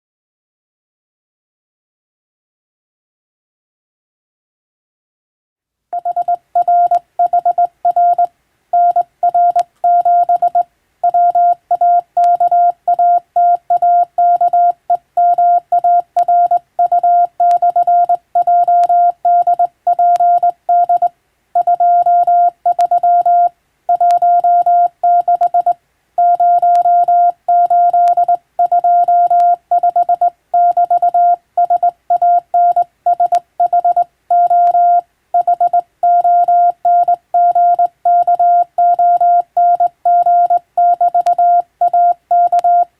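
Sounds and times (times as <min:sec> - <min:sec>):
morse code tone: 0:06.0 - 0:42.9.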